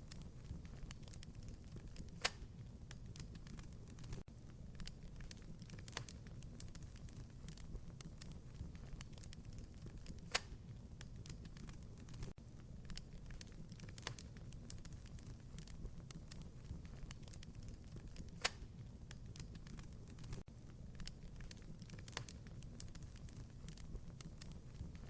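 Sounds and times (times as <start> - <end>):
low rumble of flames: 0.0 - 25.0
wood fire crackling: 0.0 - 25.0
sharp pops of fire: 0.1 - 25.0.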